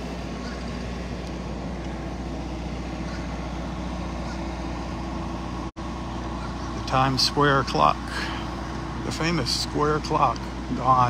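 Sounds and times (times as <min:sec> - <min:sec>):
low engine drone: 0:00.0 - 0:11.0
outdoor noise: 0:00.0 - 0:11.0.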